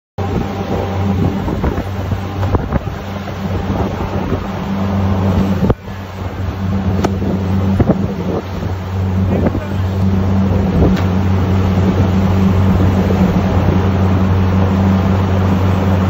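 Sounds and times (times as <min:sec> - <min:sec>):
boat engine droning: 0:00.2 - 0:16.0
water rushing along hull: 0:00.2 - 0:16.0
wind buffeting microphone: 0:00.2 - 0:16.0.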